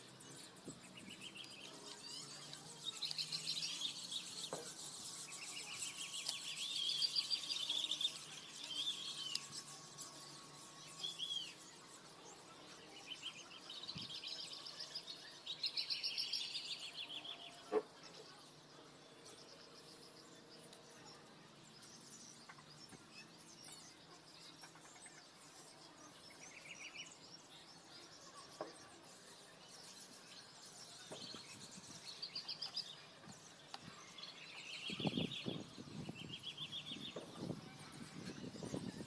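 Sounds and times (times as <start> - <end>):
small birds chirping and trilling: 0.0 - 39.0.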